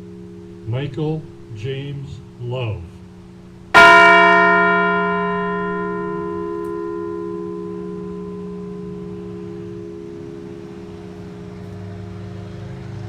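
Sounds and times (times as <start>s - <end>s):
large bell ringing: 0.0s - 12.8s.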